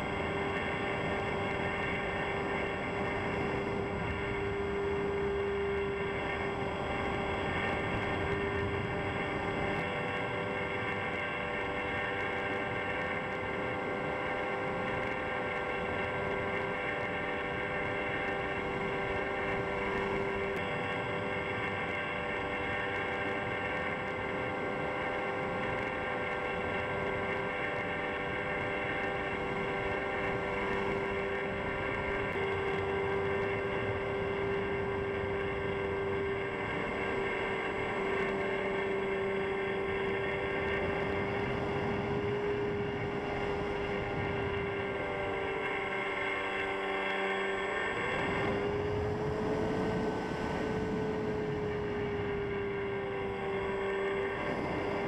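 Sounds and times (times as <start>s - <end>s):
model plane motor droning: 0.0s - 55.0s
wind rushing over microphone: 0.0s - 55.0s.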